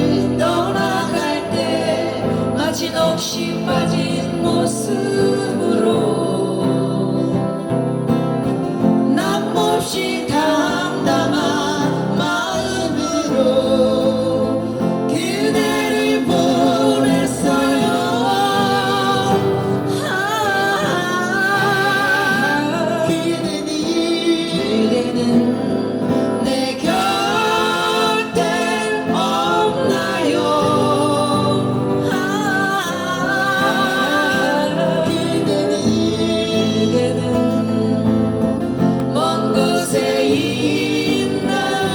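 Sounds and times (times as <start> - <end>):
person singing with vibrato: 0.0 - 41.9.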